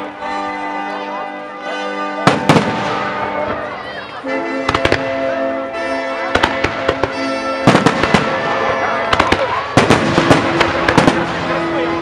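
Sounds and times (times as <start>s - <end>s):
music: 0.0s - 12.0s
fireworks bangs: 2.2s - 12.0s.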